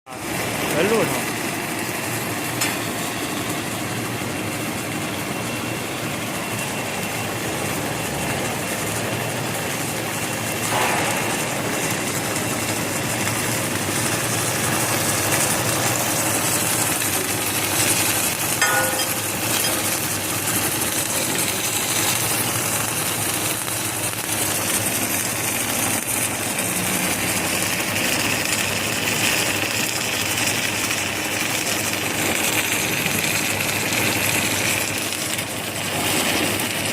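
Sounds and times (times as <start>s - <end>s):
welding machine running: 0.1s - 36.9s.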